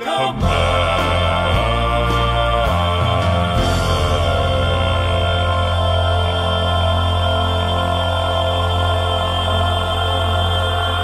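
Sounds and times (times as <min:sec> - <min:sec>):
bass singer holding a low note: 0:00.3 - 0:11.0.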